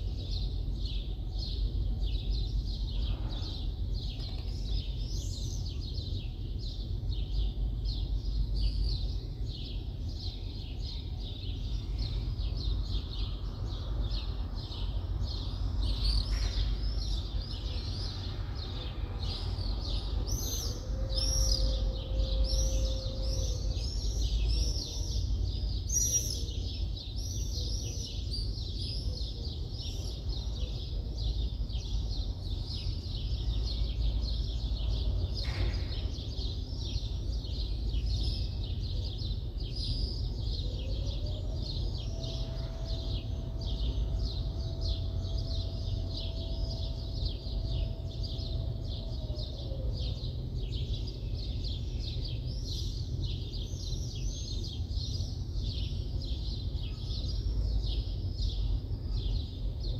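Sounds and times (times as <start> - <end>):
low background rumble: 0.0 - 59.9
birds chirping: 0.1 - 59.9.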